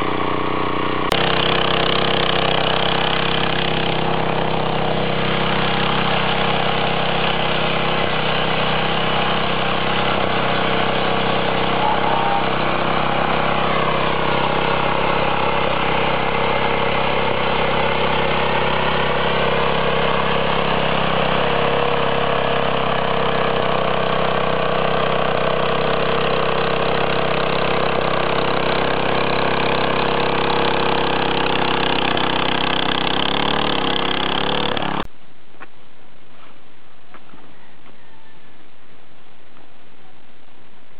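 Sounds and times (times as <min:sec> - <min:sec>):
power tiller engine running: 0:00.0 - 0:35.1.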